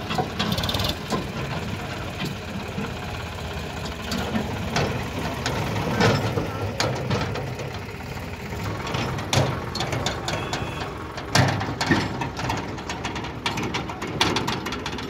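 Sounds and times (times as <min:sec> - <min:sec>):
tractor diesel engine running: 0:00.0 - 0:15.0
trailer metallic clanks and rattles: 0:00.0 - 0:15.0.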